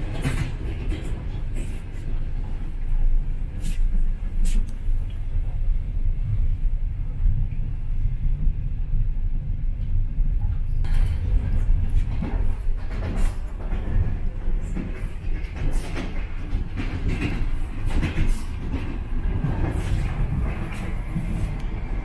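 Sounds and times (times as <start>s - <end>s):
train rumbling inside carriage: 0.0s - 22.0s.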